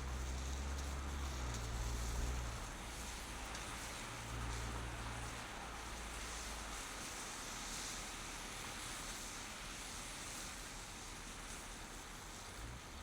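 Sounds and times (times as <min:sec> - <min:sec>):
tyre and road noise on snow: 0:00.0 - 0:13.0.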